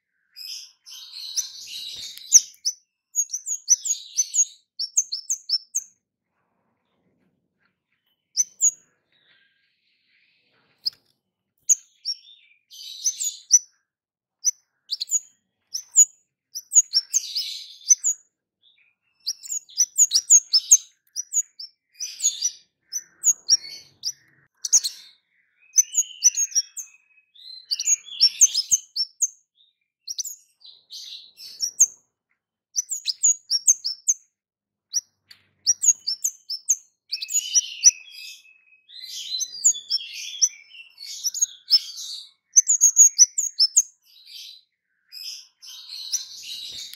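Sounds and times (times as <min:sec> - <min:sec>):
bird chirping and twittering: 0:00.0 - 0:46.9.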